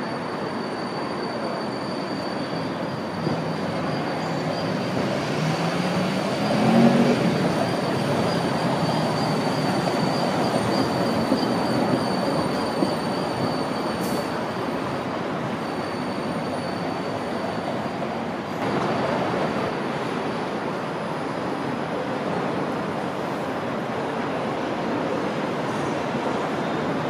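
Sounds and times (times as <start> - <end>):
tram rolling past: 0.0 - 27.0.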